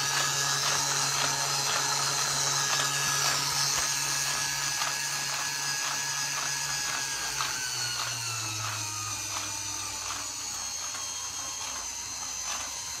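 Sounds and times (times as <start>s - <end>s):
electric motor hum and whine: 0.0s - 13.0s.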